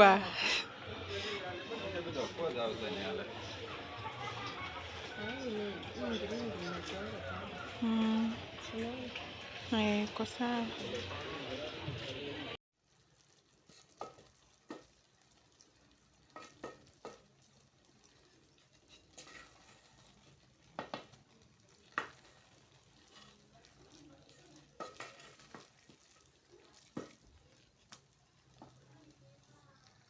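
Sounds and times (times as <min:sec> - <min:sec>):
faint sizzle: 0:00.0 - 0:30.0.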